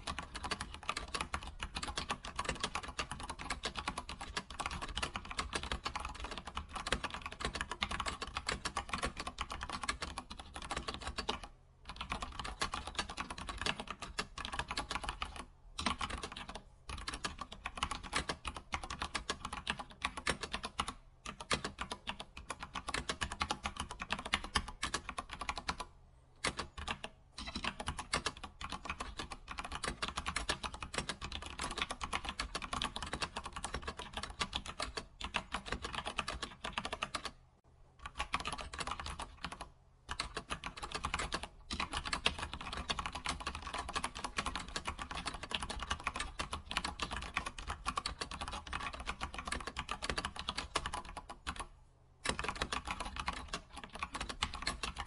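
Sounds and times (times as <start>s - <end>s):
keyboard typing: 0.0s - 37.4s, 38.0s - 55.0s.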